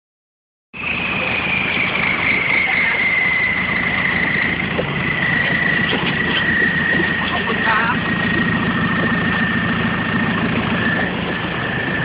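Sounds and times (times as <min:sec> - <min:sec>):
high thin whine: 0:00.8 - 0:12.0
vehicle engine running: 0:00.8 - 0:12.0
water washing and churning: 0:00.8 - 0:12.0.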